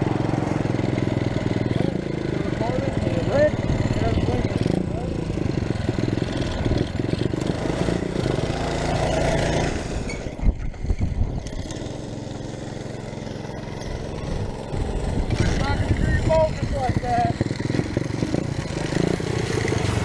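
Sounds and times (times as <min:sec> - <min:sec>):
small motorbike engine running: 0:00.0 - 0:20.0.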